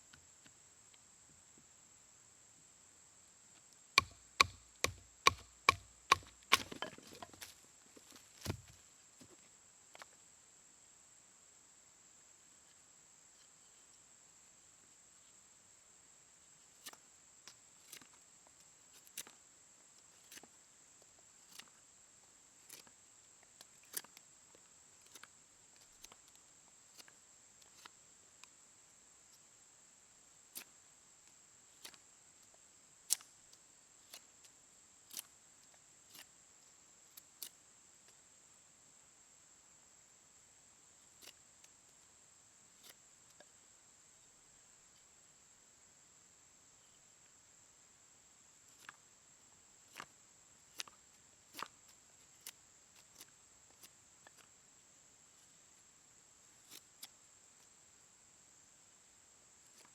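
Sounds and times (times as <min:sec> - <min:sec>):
faint high hiss: 0:00.0 - 0:59.9.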